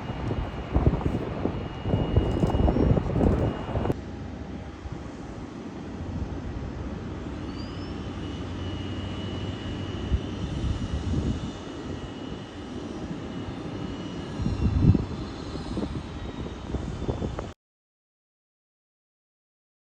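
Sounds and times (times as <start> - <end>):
jet engines whining: 0.0 - 17.6.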